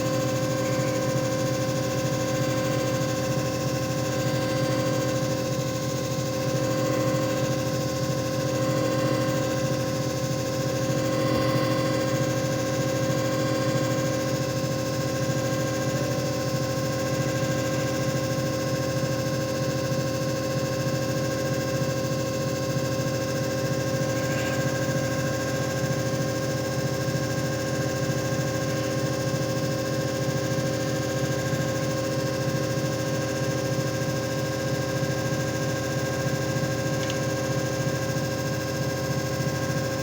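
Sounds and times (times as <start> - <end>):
motor hum with tones: 0.0 - 40.0.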